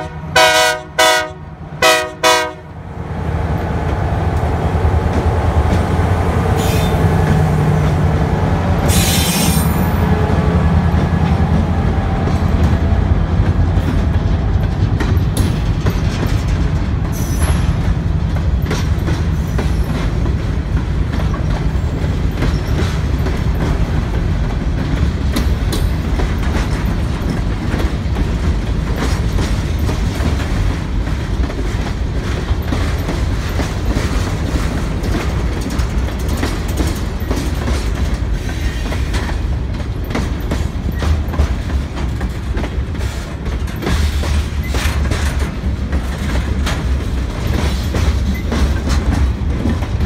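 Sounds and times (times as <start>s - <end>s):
train cars clicking and clanking: 0.0s - 50.0s
train wheels rumbling on rail: 0.0s - 50.0s.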